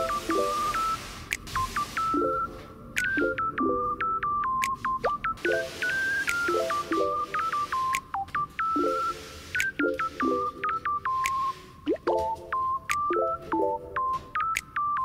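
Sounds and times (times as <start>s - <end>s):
light melody over soft chords: 0.0s - 15.0s.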